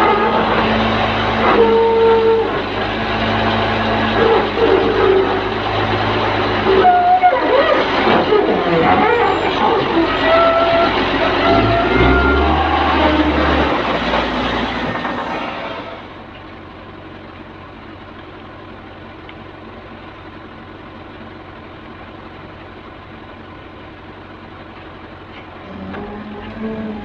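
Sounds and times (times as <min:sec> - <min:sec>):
diesel engine idling: 0:00.0 - 0:27.0
wheel loader engine working hard: 0:00.0 - 0:27.0.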